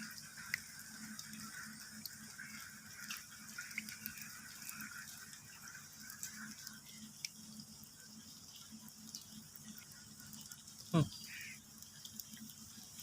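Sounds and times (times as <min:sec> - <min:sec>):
light rain dripping: 0:00.0 - 0:13.0
sharp drips: 0:00.0 - 0:13.0.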